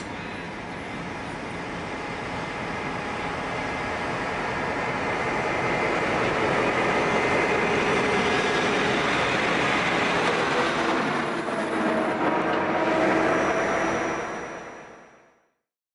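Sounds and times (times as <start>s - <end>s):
diesel locomotive engine: 0.0s - 15.4s.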